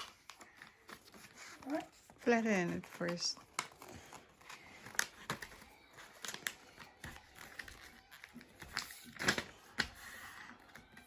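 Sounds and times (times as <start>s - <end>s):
paper crackling: 0.0s - 11.0s
paper folding and rustling: 0.0s - 11.0s.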